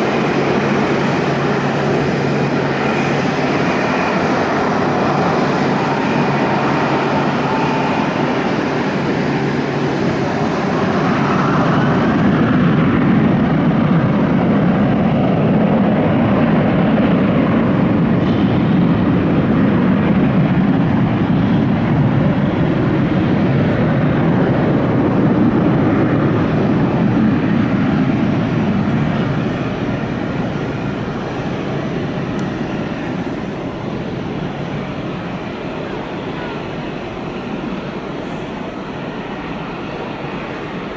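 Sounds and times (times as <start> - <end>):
jet engine roar: 0.0 - 40.9
jet engine whine: 0.0 - 40.9.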